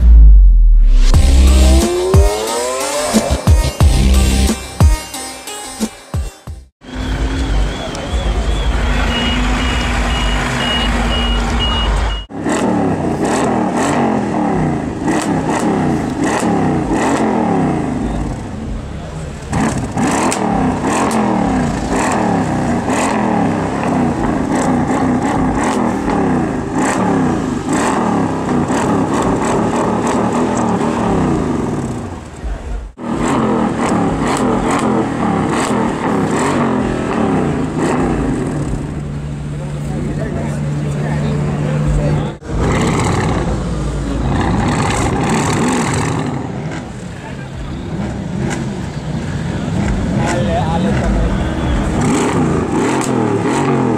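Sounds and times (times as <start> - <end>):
car engine revving: 0.0 - 4.6, 6.9 - 53.9.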